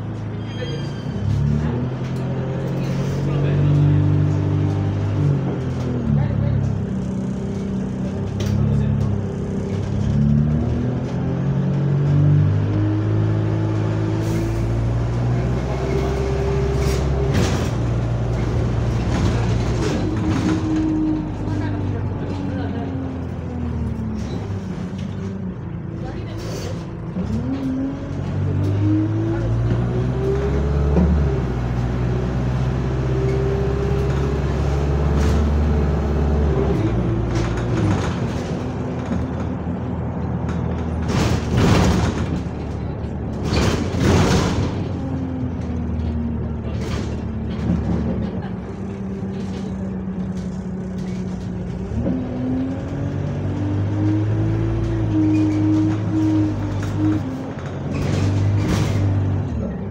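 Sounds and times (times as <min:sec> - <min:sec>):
bus engine accelerating: 0:00.0 - 0:59.9.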